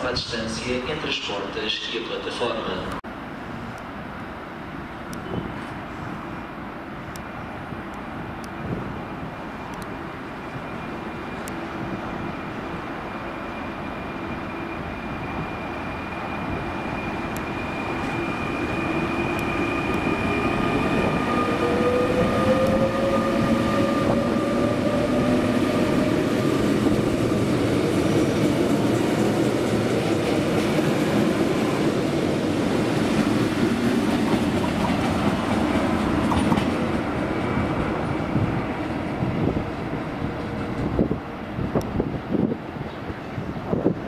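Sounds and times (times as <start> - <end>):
wheels rumbling on rail: 3.1 - 44.0.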